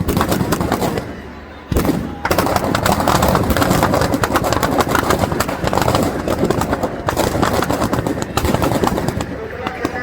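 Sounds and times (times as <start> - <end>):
firecrackers bursting: 0.0 - 10.0.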